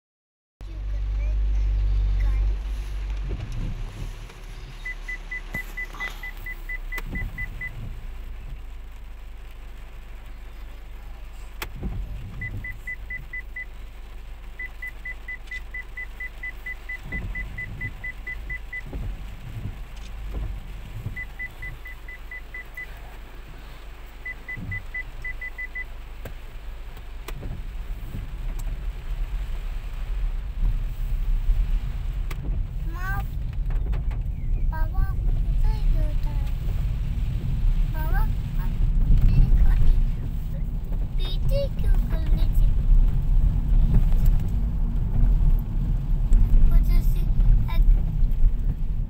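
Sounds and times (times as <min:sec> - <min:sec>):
low rumble: 0:00.6 - 0:49.0
rain falling: 0:00.6 - 0:49.0.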